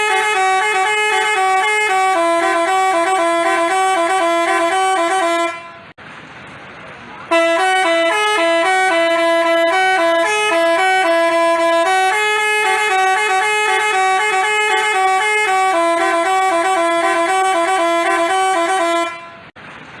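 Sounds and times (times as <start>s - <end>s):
bus horn playing a tune: 0.0s - 6.0s, 7.3s - 19.6s.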